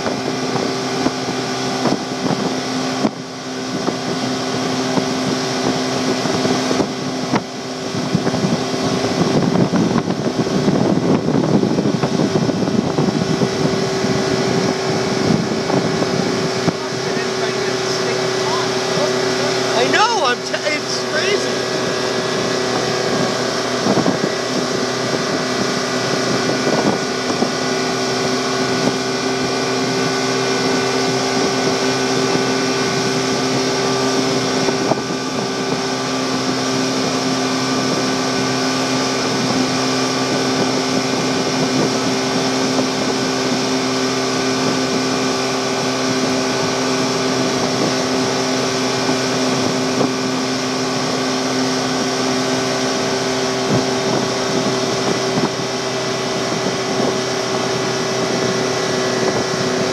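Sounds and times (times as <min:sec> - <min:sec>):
motorboat engine droning: 0:00.0 - 0:59.9
water rushing from wake: 0:00.0 - 0:59.9
wind on microphone: 0:00.0 - 0:59.9.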